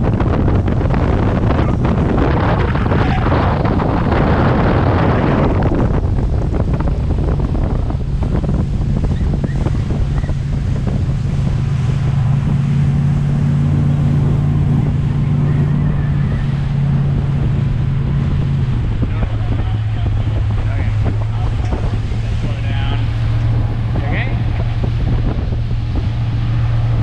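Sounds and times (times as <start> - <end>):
motorboat engine running: 0.0 - 27.0
water rushing past: 0.0 - 27.0
wind buffeting microphone: 0.0 - 27.0.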